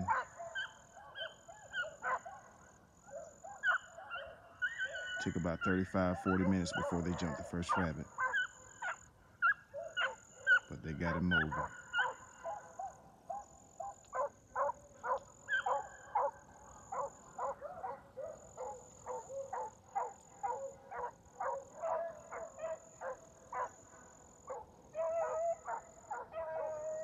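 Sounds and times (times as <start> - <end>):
drawn-out dog bawls: 0.0 - 2.4, 3.2 - 5.4, 6.1 - 27.0
beagles barking: 0.0 - 27.0.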